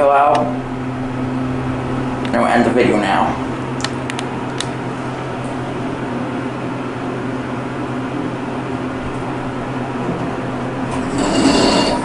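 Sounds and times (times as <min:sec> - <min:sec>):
elevator cab hum: 0:00.0 - 0:12.0
machine and ventilation rush: 0:00.0 - 0:12.0.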